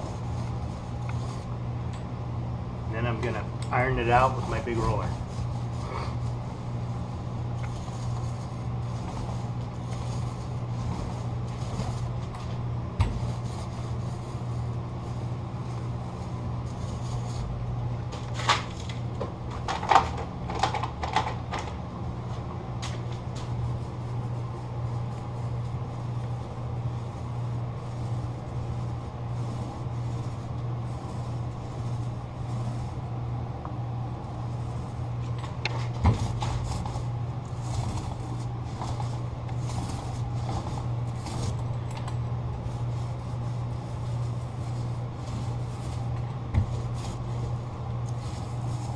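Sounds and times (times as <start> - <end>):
low machine hum: 0.0 - 48.9.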